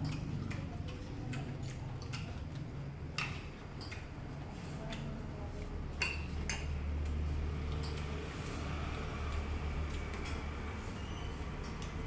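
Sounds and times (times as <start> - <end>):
chewing and lip smacking: 0.0 - 12.0.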